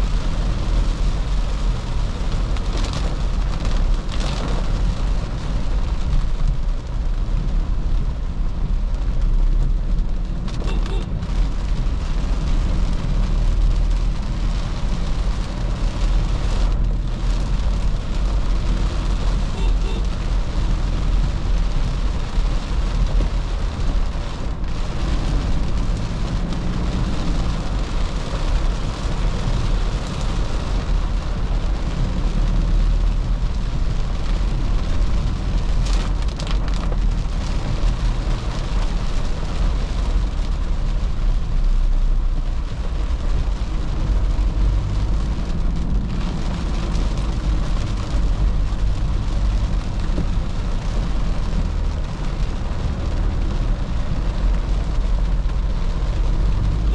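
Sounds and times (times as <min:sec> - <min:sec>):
rain on a vehicle: 0:00.0 - 0:56.9
tyre and road noise: 0:00.0 - 0:56.9.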